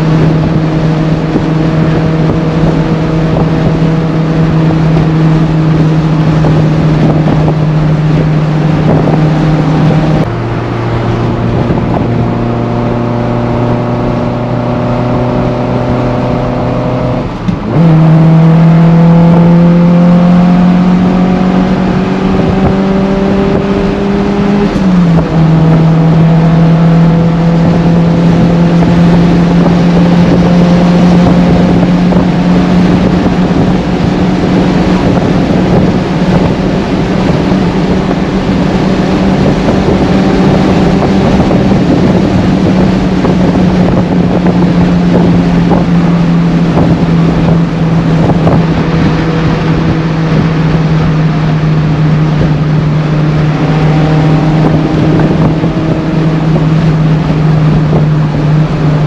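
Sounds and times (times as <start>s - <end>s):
car engine droning: 0.0s - 59.0s
road noise: 0.0s - 59.0s
wind noise: 0.0s - 59.0s.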